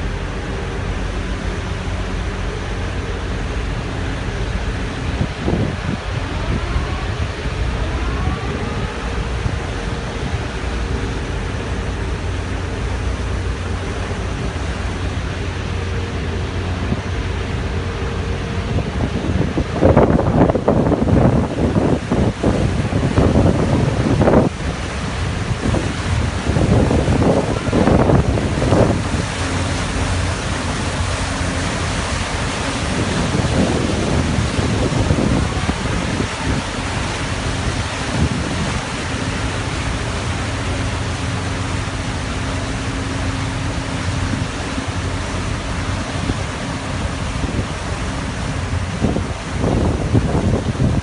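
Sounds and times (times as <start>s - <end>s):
ferry engines humming: 0.0s - 51.0s
water churning: 0.0s - 51.0s
wind buffeting microphone: 0.0s - 51.0s.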